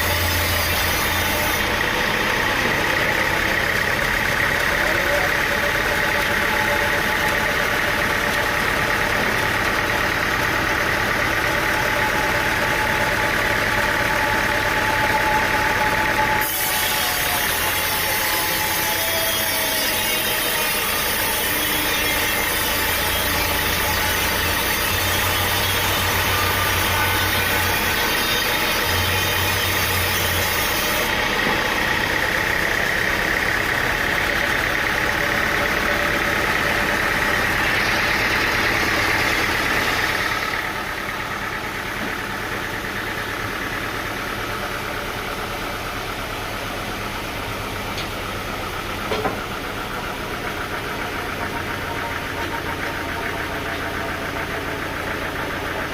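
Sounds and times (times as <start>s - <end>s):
engine running: 0.0s - 55.9s
machinery noise: 0.0s - 55.9s.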